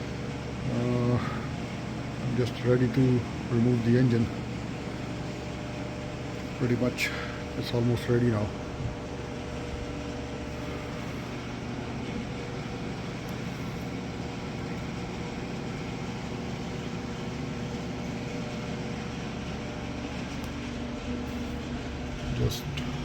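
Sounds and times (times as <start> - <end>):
workshop mechanical hum: 0.0 - 23.0.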